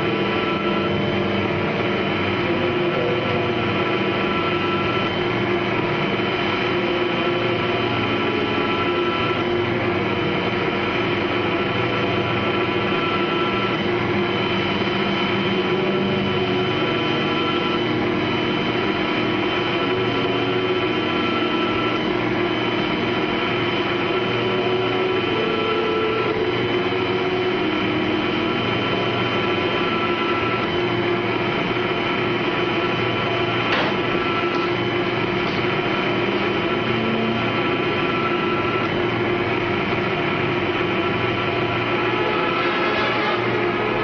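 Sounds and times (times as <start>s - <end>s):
mechanical drone with hum: 0.0s - 44.0s.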